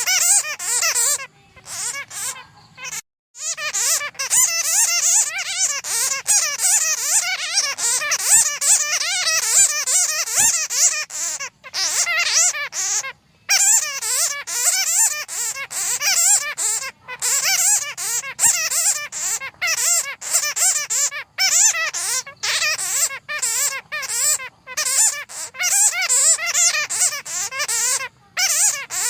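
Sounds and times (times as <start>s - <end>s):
bats squeaking and chattering: 0.0s - 29.0s.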